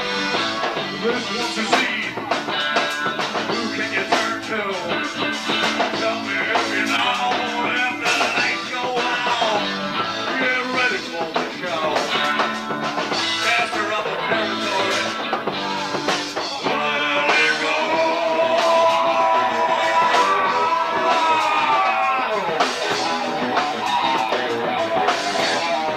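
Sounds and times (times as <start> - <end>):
bass guitar: 0.0 - 25.9
drum kit beat: 0.0 - 25.9
electric guitar: 0.0 - 25.9.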